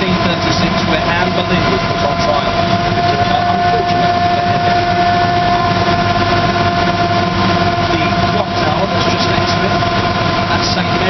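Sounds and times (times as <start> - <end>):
high whine: 0.0 - 11.0
vehicle engine droning: 0.0 - 11.0.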